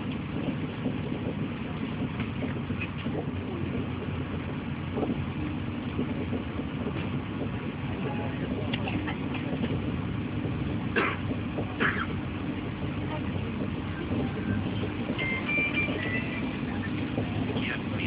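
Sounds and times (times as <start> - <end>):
train running noise: 0.0 - 18.0.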